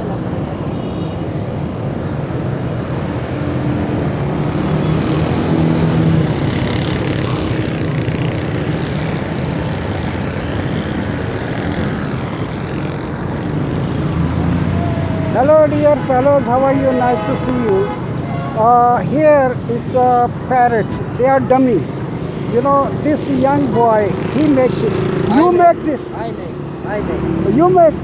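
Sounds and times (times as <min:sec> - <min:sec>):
engine droning: 0:02.2 - 0:28.0.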